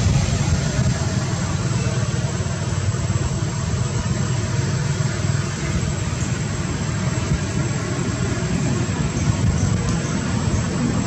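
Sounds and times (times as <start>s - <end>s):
low rumbling: 0.0s - 11.0s.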